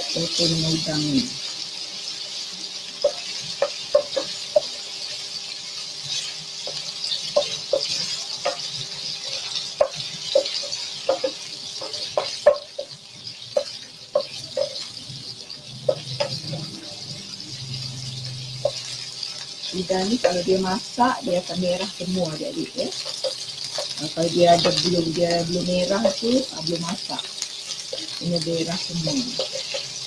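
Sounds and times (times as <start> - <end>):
prawns sizzling in oil: 0.0 - 30.0
spatula scraping a pan: 1.5 - 30.0.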